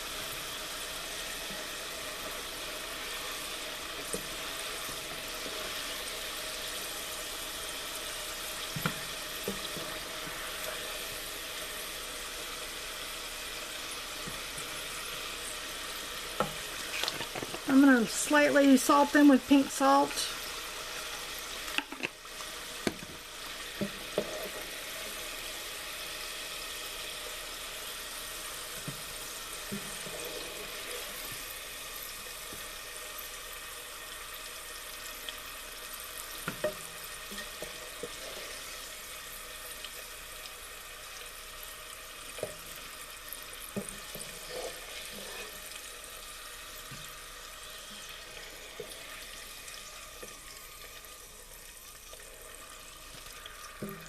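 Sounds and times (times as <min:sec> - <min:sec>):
food sizzling while frying: 0:00.0 - 0:54.0.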